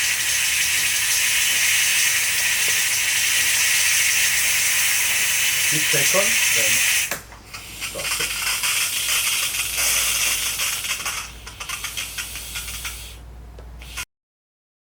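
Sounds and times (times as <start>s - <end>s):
steam wand hissing and sputtering: 0.0s - 13.2s, 13.8s - 14.0s.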